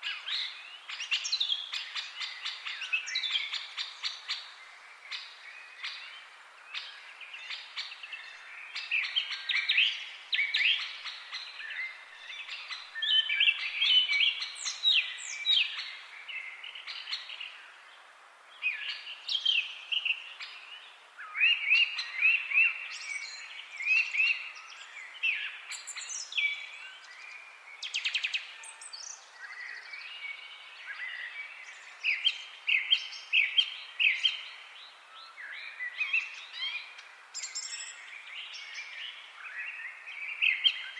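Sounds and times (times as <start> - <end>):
faint background hiss: 0.0 - 40.9
songbirds chirping and singing: 0.0 - 40.9.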